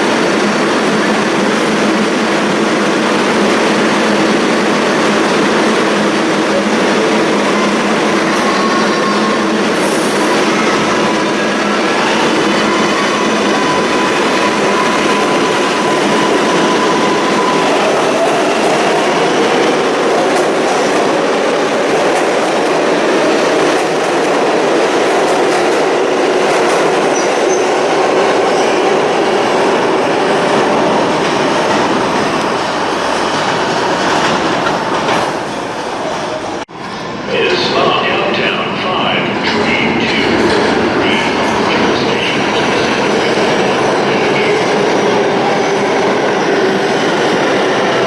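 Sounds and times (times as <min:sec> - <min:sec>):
subway train wheels on rails: 0:00.0 - 0:48.0.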